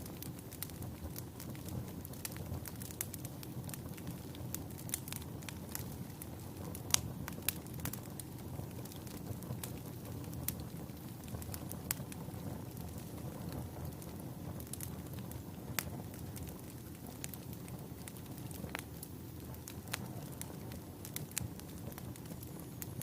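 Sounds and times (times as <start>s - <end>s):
fire crackles and pops: 0.0s - 23.0s
wood fire rushing flame: 0.0s - 23.0s.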